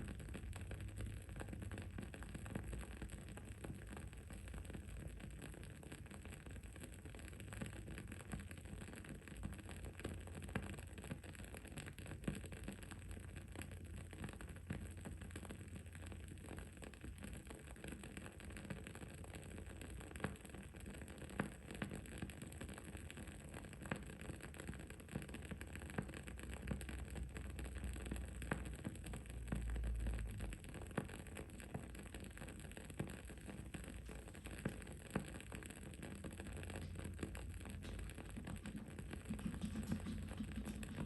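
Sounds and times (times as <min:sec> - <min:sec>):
candle crackling and popping: 0:00.0 - 0:41.0.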